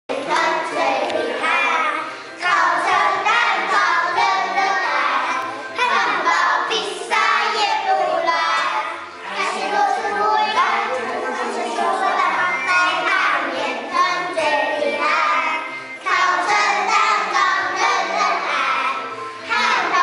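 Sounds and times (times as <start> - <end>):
children singing in unison: 0.1 - 20.0.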